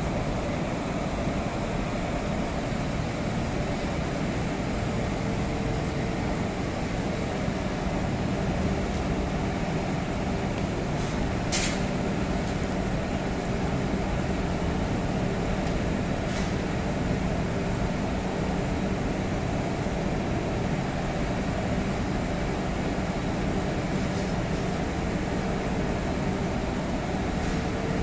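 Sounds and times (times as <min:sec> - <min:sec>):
machinery droning and humming: 0:00.0 - 0:28.0.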